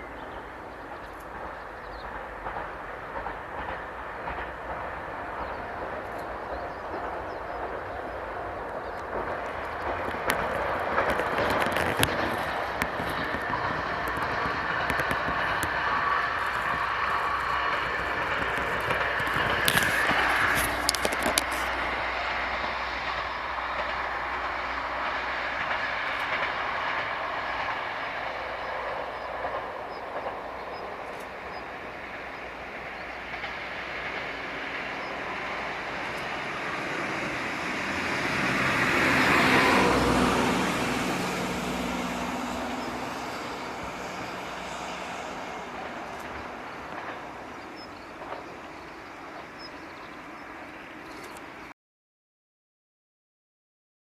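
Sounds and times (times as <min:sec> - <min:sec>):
diesel train passing: 0:00.0 - 0:51.7.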